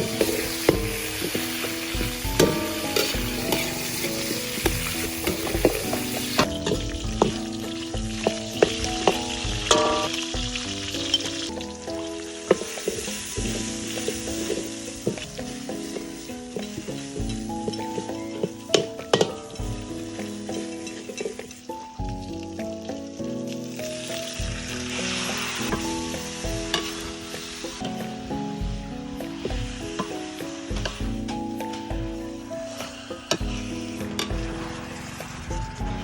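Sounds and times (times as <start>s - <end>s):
background music with a beat: 0.0s - 36.0s
food sizzling in a pan: 0.0s - 36.0s.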